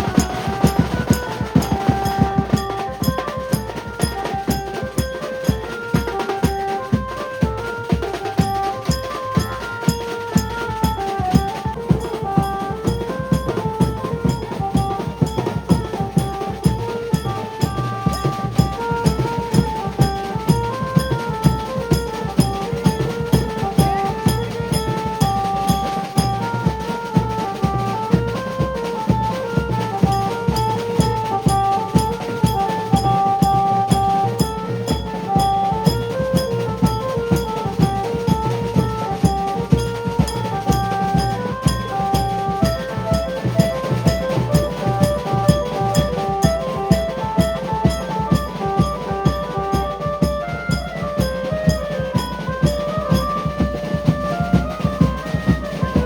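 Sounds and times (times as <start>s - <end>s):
amplified banjo melody: 0.0s - 56.0s
drums and cymbals beat: 0.0s - 56.0s.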